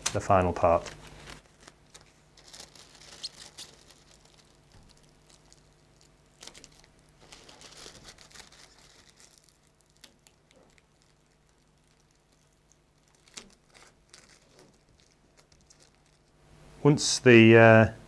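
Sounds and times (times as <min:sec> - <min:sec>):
plastic film crinkling: 0:00.0 - 0:16.4.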